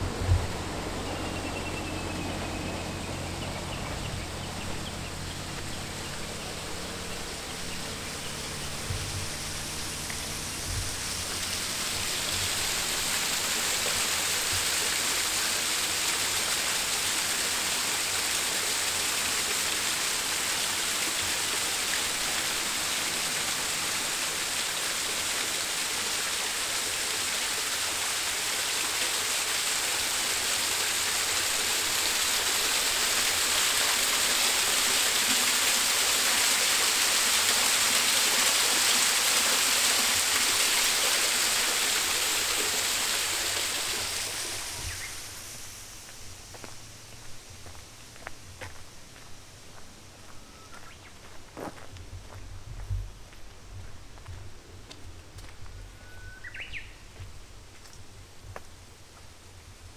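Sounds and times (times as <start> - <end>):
rushing stream water: 0.0 - 52.4, 53.2 - 59.9.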